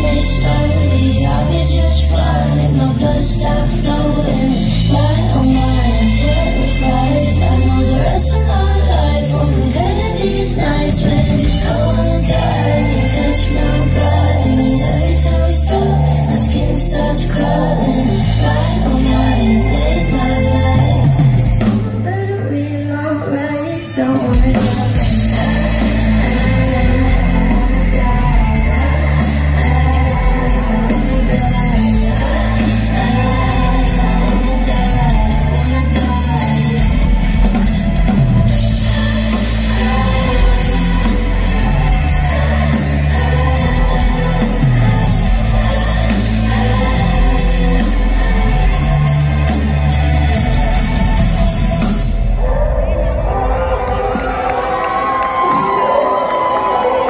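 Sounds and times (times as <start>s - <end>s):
woman singing: 0.0s - 51.9s
pop-punk band playing: 0.0s - 57.0s.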